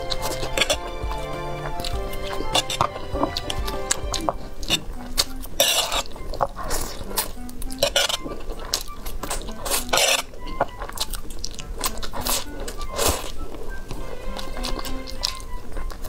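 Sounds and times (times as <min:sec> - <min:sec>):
background music: 0:00.0 - 0:16.0
noodles slurped and chewed: 0:00.0 - 0:16.0.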